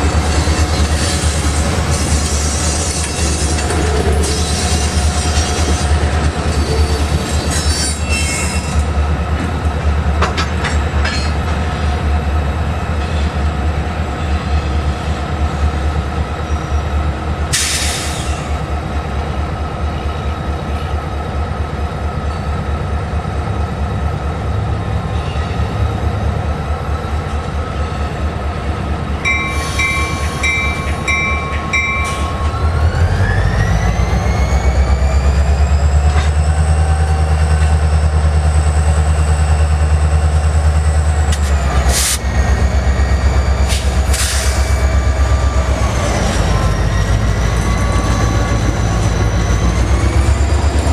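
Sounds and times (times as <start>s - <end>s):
diesel locomotive engine rumbling: 0.0s - 50.9s.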